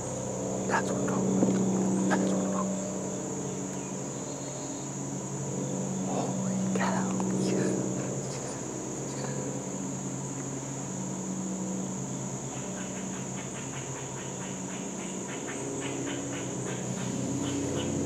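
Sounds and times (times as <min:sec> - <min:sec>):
insects chirping: 0:00.0 - 0:18.0
low droning hum: 0:00.0 - 0:18.0.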